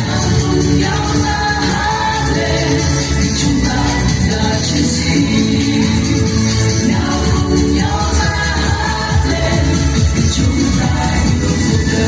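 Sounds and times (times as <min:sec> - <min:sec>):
music with steady beat: 0:00.0 - 0:12.0
person singing: 0:00.0 - 0:12.0.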